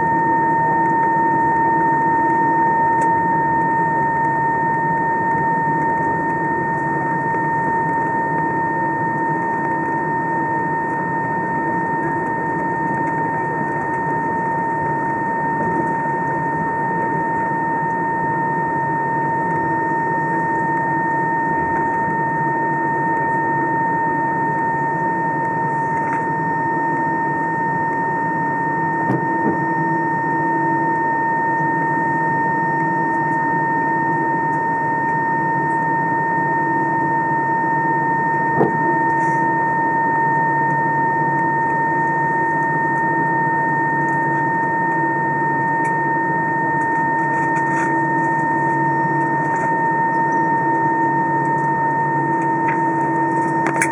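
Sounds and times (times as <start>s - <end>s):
high whine: 0.0s - 53.9s.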